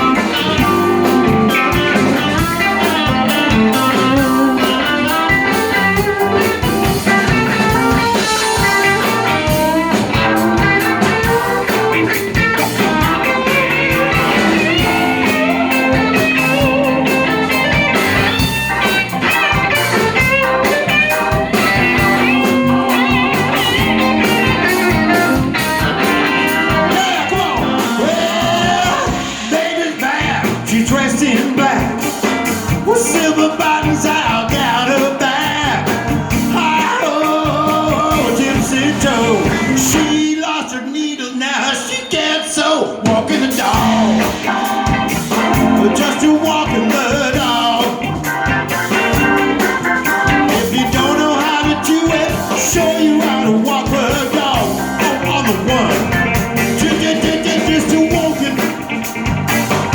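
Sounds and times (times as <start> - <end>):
electric guitar: 0.0 - 40.4, 43.0 - 59.9
blues band playing: 0.0 - 41.0, 42.9 - 59.9.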